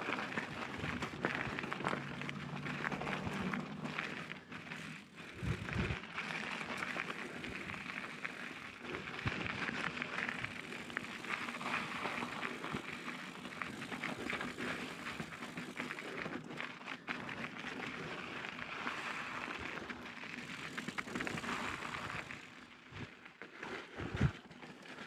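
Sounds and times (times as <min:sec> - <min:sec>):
bike tyres crunching on stones: 0:00.0 - 0:25.0.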